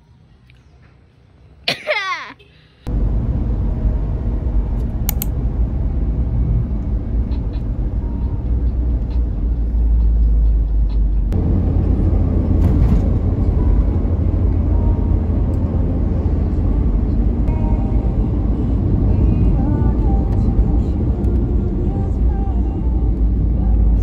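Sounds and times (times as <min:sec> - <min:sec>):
car road and engine rumble: 0:02.7 - 0:24.0.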